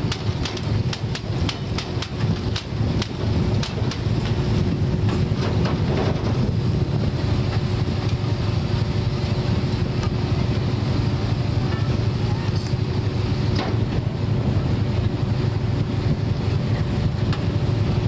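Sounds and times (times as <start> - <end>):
boat engine running: 0.0 - 18.0
wind on microphone: 0.0 - 18.0.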